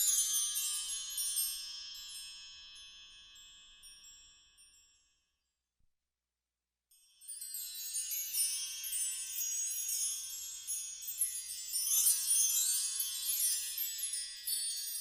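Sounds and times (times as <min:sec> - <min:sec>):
shimmering chime tones: 0:00.0 - 0:04.7, 0:07.2 - 0:15.0.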